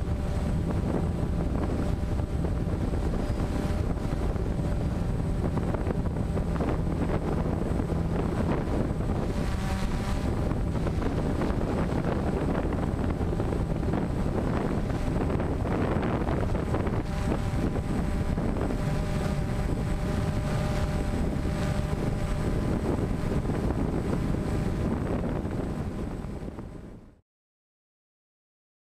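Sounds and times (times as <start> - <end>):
drone propellers humming: 0.0 - 27.2
wind buffeting microphone: 0.0 - 27.2.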